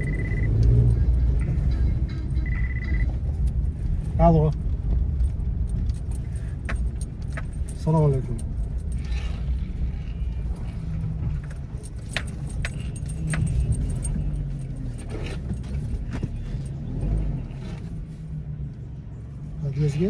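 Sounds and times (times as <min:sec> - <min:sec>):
sharp clicks and light rattles: 0:00.0 - 0:09.6, 0:10.3 - 0:17.2
car cabin road and engine rumble: 0:00.0 - 0:20.0.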